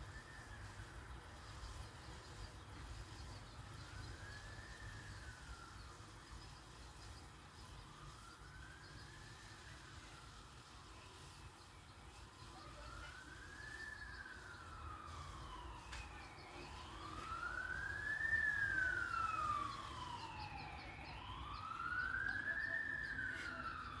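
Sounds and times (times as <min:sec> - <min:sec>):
higher siren wailing: 0:00.0 - 0:24.0
siren wailing: 0:00.0 - 0:24.0.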